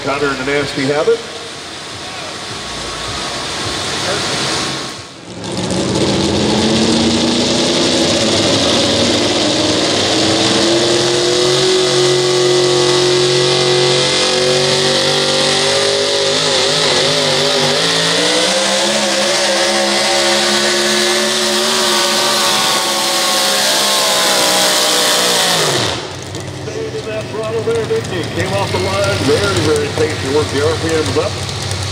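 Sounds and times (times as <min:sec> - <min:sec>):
truck engine at full throttle: 0:00.0 - 0:31.9.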